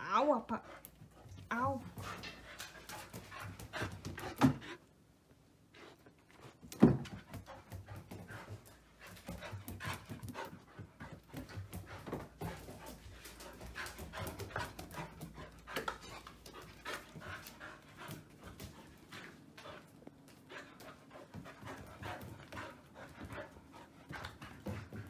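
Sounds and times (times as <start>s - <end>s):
puppy panting: 0.6s - 4.9s, 5.8s - 25.0s.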